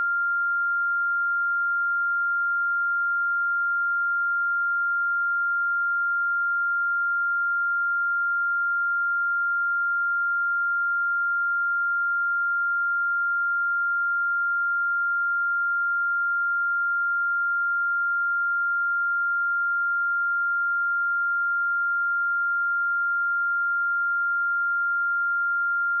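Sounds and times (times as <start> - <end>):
high-pitched sine-wave tone: 0.0 - 26.0.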